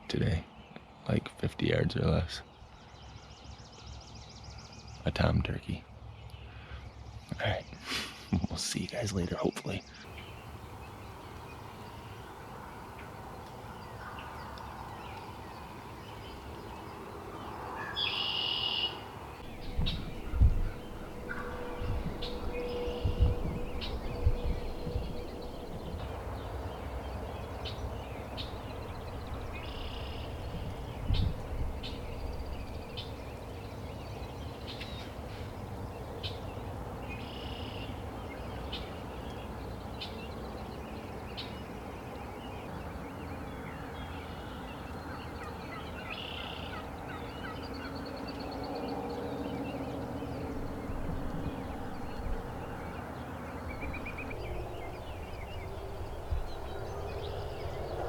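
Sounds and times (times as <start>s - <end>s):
outdoor background noise: 0.0s - 58.0s
songbird chirps: 0.0s - 58.0s.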